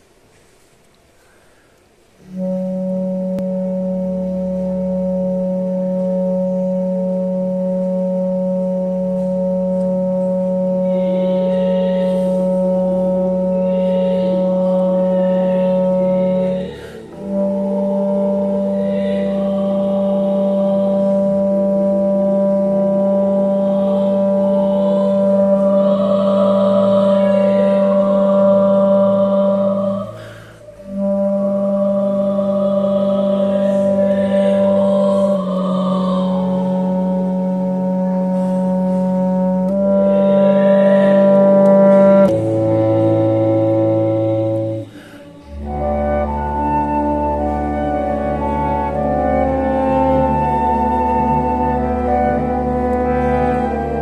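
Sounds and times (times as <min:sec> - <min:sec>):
bass clarinet low notes: 0:02.2 - 0:54.0.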